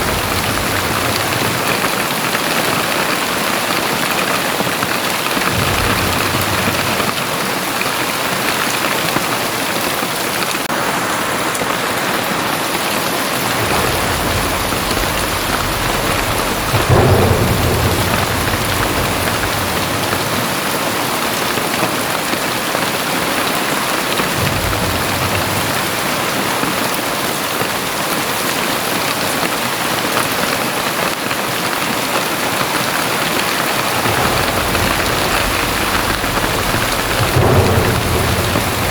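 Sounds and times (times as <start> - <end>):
thunder rumbling: 0.0 - 10.0, 12.9 - 28.8, 32.7 - 38.9
heavy rain pouring: 0.0 - 38.9.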